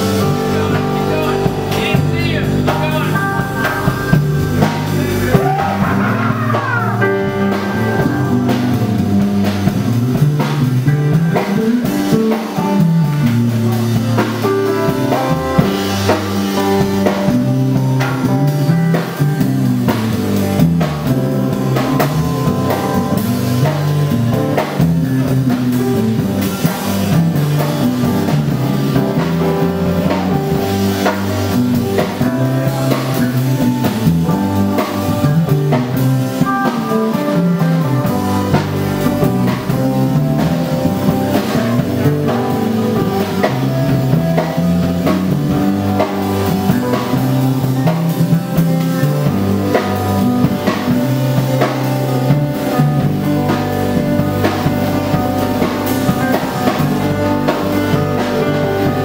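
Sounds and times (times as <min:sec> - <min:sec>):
drum kit: 0:00.0 - 0:59.0
electric bass line: 0:00.0 - 0:59.0
electric guitar: 0:00.0 - 0:59.0
keyboards: 0:00.0 - 0:59.0.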